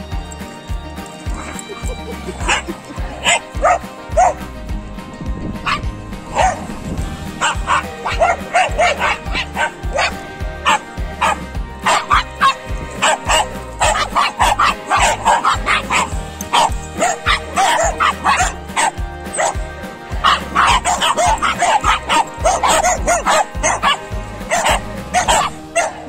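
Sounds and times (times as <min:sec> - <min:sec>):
background music with bass: 0:00.0 - 0:26.0
dogs play-barking and yipping: 0:00.2 - 0:26.0.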